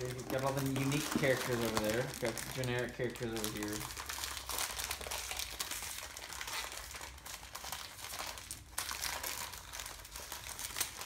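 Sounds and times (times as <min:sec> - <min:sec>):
plastic foil packs crinkling: 0:00.0 - 0:11.0.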